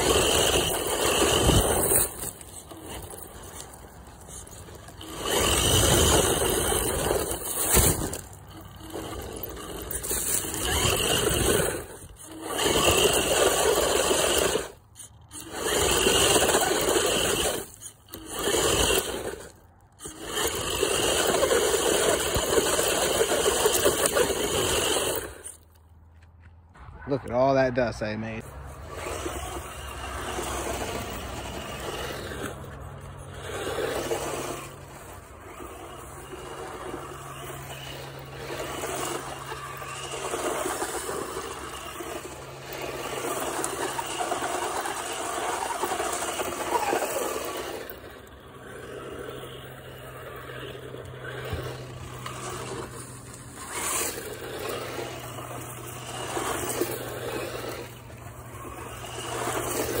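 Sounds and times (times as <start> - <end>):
rc truck motor and tyres: 0.0 - 60.0.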